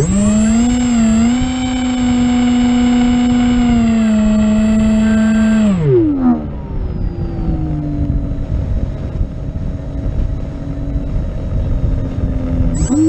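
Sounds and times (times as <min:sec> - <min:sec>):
electric motor and propeller whining: 0:00.0 - 0:13.0
wind noise: 0:00.0 - 0:13.0.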